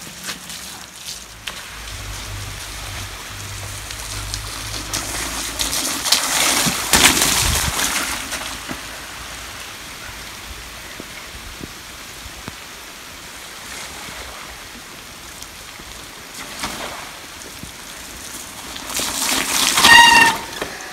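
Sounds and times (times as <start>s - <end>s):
bike tyres splashing through puddles: 0.0s - 20.9s
rain hissing: 0.0s - 20.9s.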